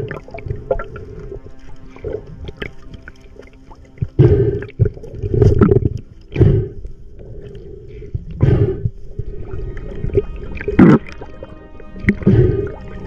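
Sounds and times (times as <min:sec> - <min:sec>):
muffled underwater water surges: 0:00.0 - 0:13.0.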